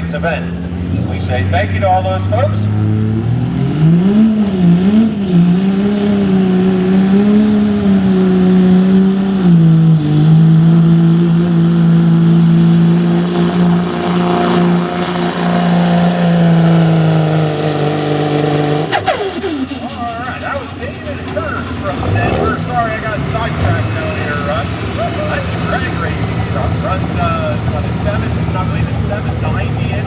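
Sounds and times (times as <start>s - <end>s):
diesel truck engine at full throttle: 0.0s - 30.0s.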